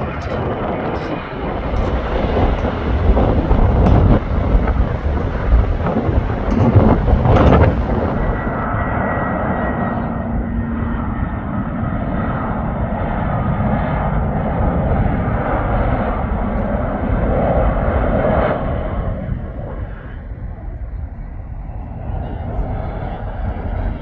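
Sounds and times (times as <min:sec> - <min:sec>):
airliner engines: 0:00.0 - 0:24.0.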